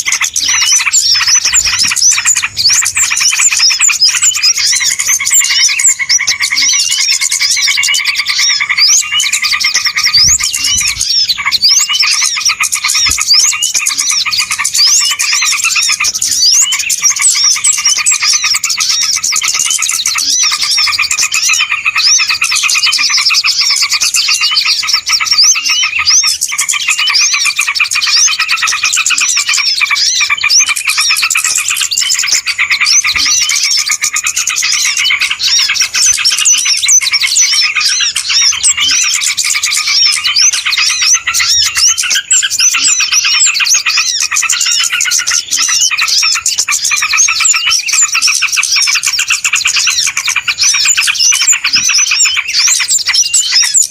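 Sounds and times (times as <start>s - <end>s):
small birds chirping and twittering: 0.0s - 53.9s.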